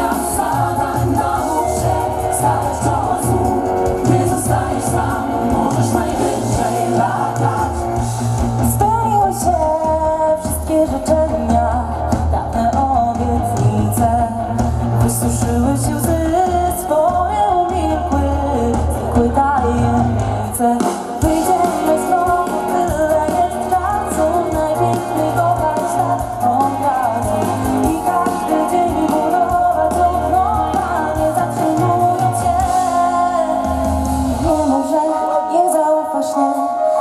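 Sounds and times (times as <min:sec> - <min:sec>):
live pop band: 0:00.0 - 0:37.0
woman singing into microphone: 0:00.0 - 0:37.0.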